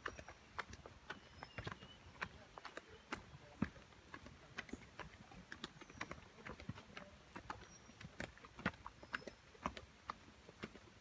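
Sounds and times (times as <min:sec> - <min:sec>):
sandal footsteps on rocky trail: 0:00.0 - 0:11.0.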